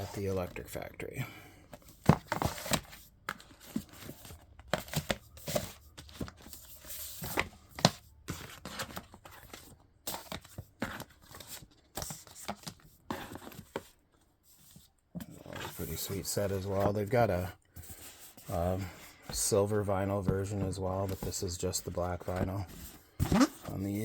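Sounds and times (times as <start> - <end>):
cardboard and paper rustling: 1.6 - 24.0.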